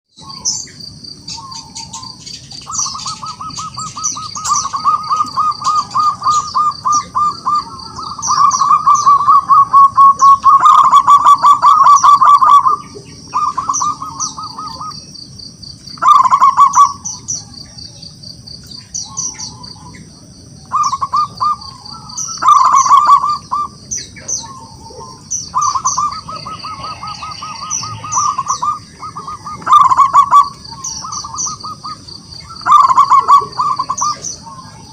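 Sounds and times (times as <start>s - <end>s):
small bird chirps: 0.1s - 34.9s
dove cooing: 0.2s - 18.0s, 18.8s - 34.9s.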